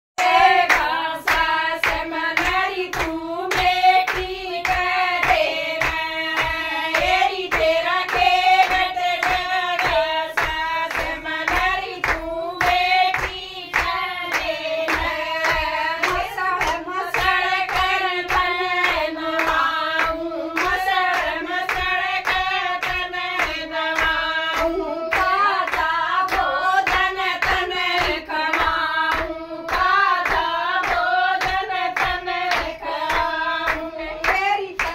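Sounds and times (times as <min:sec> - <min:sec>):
hand claps: 0:00.2 - 0:34.9
women singing together: 0:00.2 - 0:34.9.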